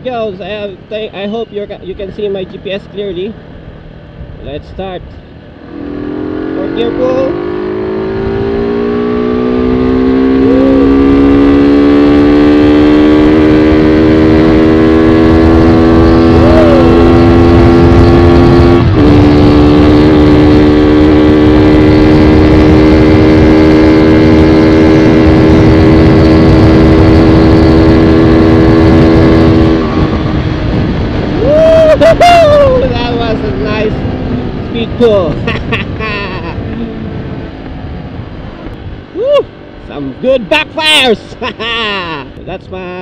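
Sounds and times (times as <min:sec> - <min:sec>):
motorcycle engine at full throttle: 0:01.9 - 0:43.0
wind rumble on microphone: 0:03.4 - 0:40.5.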